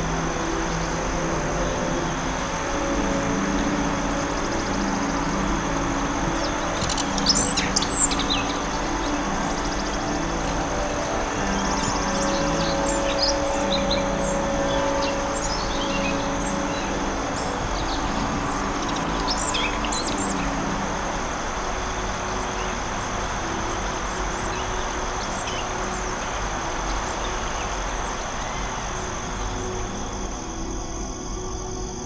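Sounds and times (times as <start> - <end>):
soft ambient music: 0.0 - 32.0
songbirds chirping: 0.0 - 32.0
steady hiss: 0.0 - 32.0.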